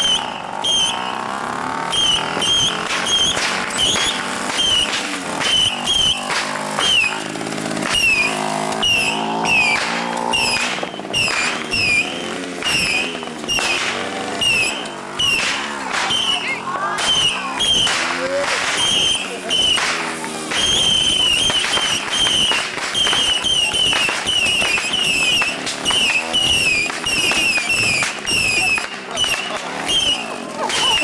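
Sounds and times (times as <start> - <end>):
descending firework whistles: 0.0 - 31.0
fireworks crackling and popping: 0.0 - 31.0
small moped engine running: 0.0 - 31.0.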